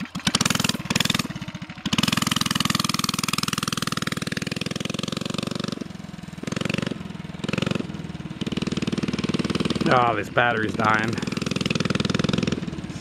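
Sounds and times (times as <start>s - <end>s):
mini bike engine revving: 0.0s - 13.0s.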